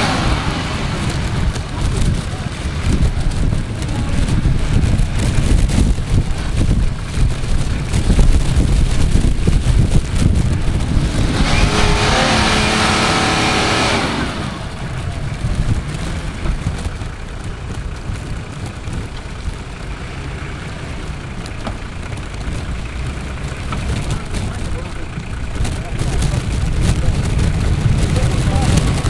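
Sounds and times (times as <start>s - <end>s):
suv engine revving under load: 0.0s - 29.0s.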